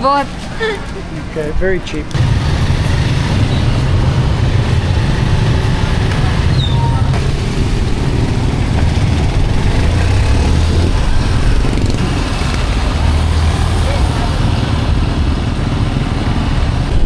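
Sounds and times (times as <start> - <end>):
vehicle engine and road rumble: 0.0 - 17.0
wind rushing: 2.1 - 17.0.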